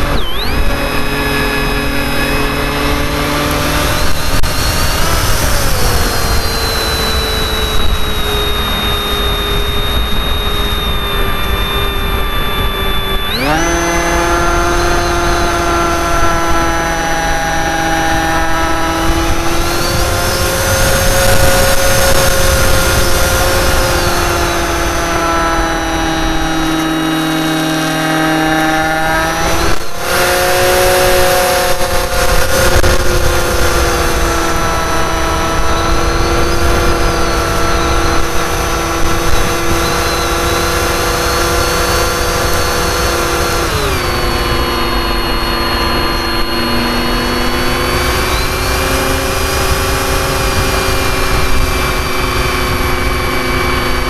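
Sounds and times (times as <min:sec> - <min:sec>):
electric motor high-pitched whine: 0:00.0 - 0:54.0
wind rumble on microphone: 0:00.0 - 0:54.0.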